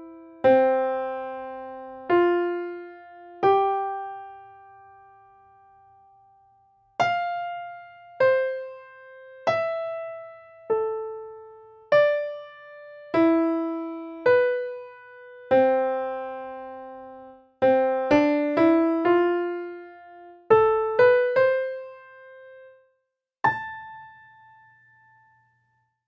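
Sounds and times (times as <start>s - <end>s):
slow solo piano melody: 0.0s - 25.6s.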